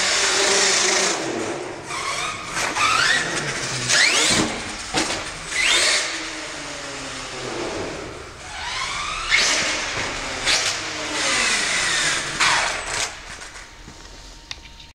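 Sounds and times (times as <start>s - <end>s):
toy truck engine revving: 0.0s - 4.5s, 5.5s - 13.2s.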